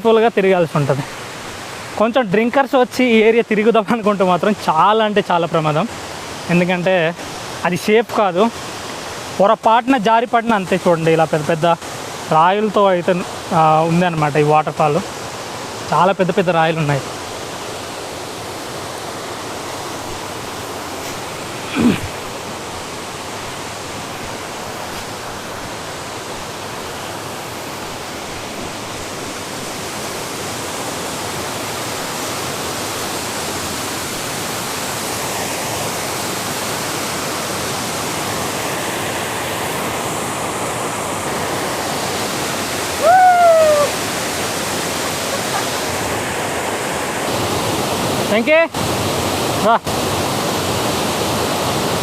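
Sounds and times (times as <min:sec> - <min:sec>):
waterfall rushing over boulders: 0:00.0 - 0:52.0.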